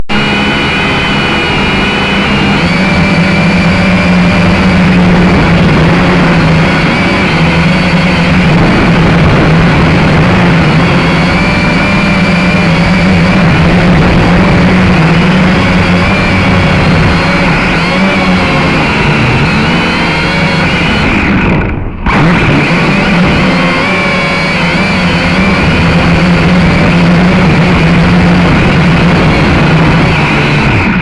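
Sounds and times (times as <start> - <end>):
drone motors whining: 0.0 - 31.0
wind noise on microphone: 0.1 - 31.0.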